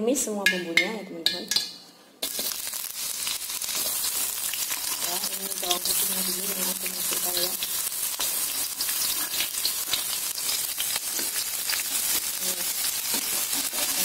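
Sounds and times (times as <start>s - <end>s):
garlic sizzling in hot oil: 2.2s - 14.0s.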